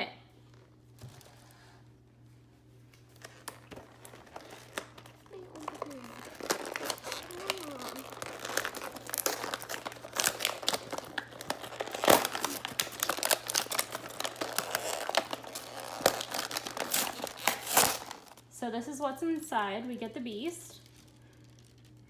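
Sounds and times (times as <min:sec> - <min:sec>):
plastic packaging torn and crinkled: 0:03.1 - 0:18.4, 0:19.3 - 0:22.0.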